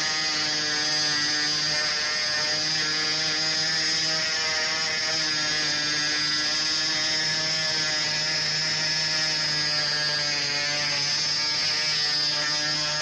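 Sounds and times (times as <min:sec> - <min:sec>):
small motor humming: 0:00.0 - 0:13.0.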